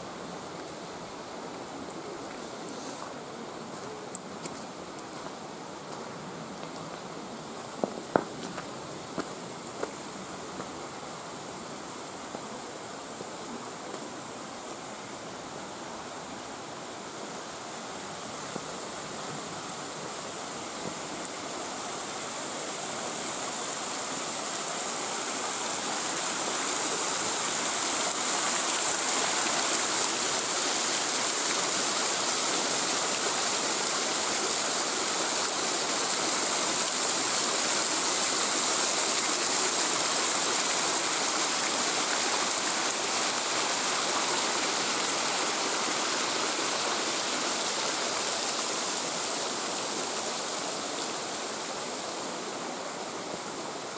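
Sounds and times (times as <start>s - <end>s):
waterfall cascading over rocks: 0.0s - 53.9s.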